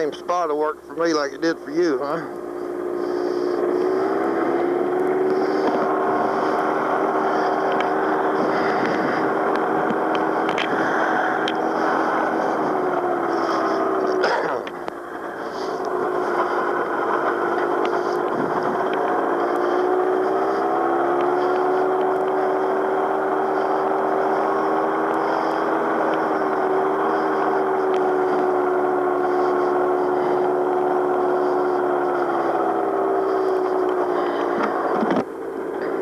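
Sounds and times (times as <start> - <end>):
gyrocopter engine running: 0.0 - 36.0.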